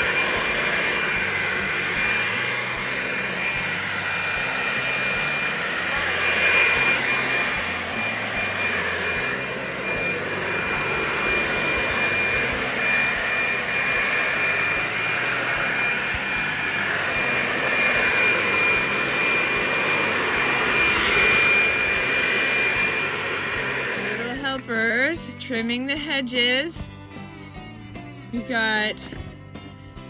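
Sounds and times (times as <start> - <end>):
electric leaf blower running: 0.0 - 30.0.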